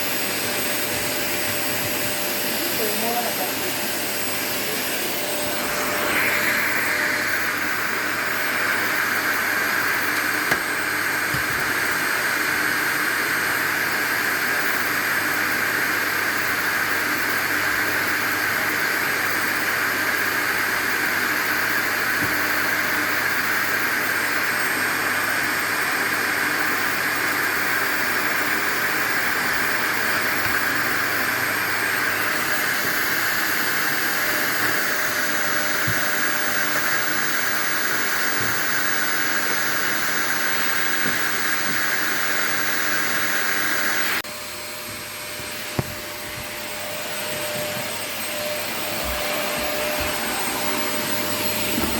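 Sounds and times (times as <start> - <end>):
vacuum cleaner running: 0.0 - 51.9.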